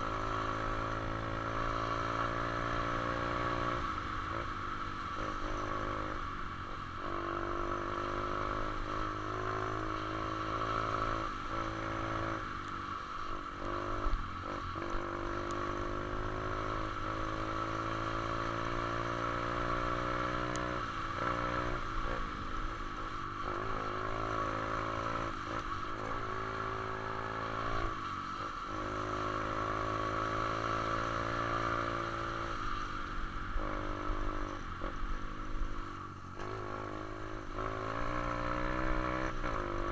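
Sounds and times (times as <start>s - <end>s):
motorbike engine revving: 7.0s - 39.9s.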